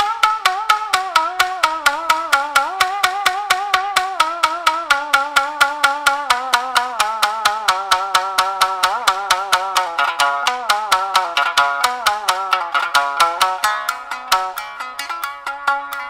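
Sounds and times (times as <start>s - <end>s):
wood-block clicks: 0.0s - 16.0s.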